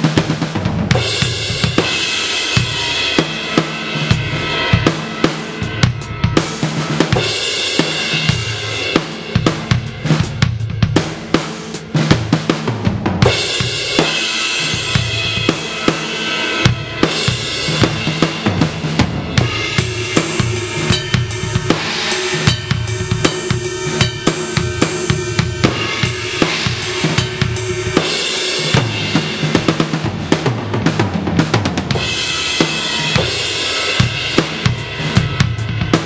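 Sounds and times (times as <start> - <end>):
bass drum: 0.0 - 2.0, 2.6 - 16.0, 16.6 - 36.0
drum kit groove: 0.0 - 36.0
cymbal wash: 0.9 - 12.0, 13.2 - 30.7, 31.9 - 36.0.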